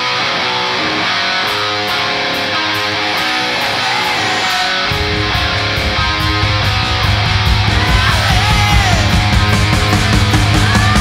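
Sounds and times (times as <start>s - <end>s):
rock music with guitar: 0.0s - 11.0s
heavy bass line: 1.7s - 11.0s.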